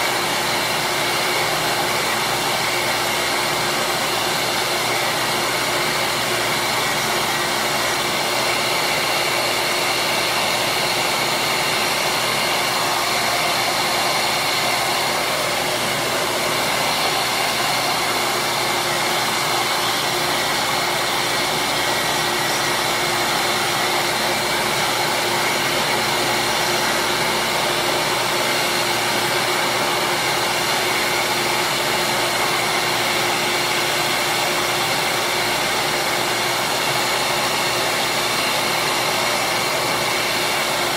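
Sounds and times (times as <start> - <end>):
bench grinder running: 0.0 - 40.9.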